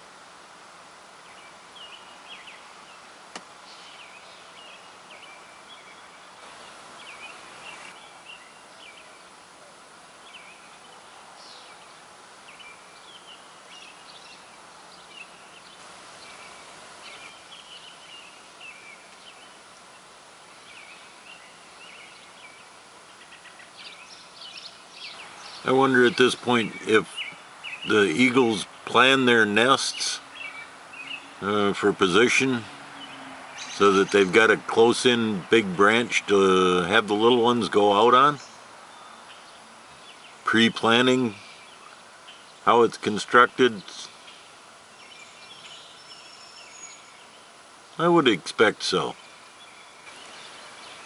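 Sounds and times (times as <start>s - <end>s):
steady outdoor hiss: 0.0s - 51.0s
birds chirping: 1.1s - 51.0s.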